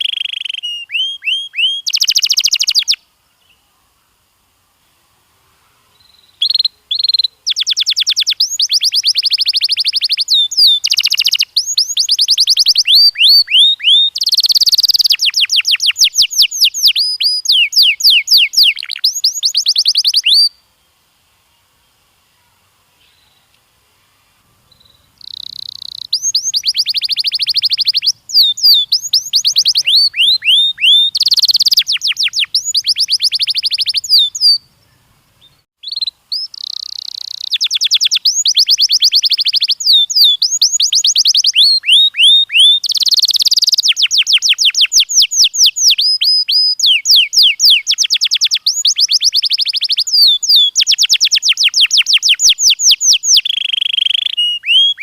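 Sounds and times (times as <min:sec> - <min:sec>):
canary singing: 0:00.0 - 0:03.6, 0:05.9 - 0:20.6, 0:24.4 - 0:55.0.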